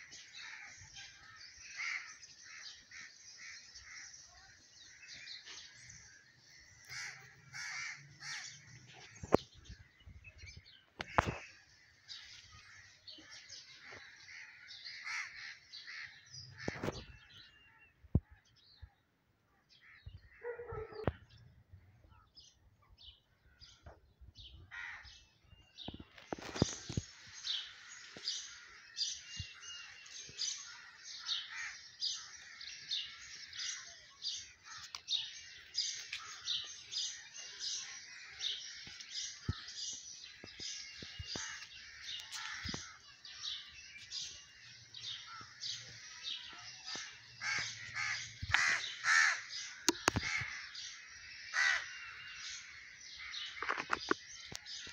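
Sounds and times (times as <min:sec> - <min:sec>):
birds chattering chorus: 0:00.0 - 0:54.9.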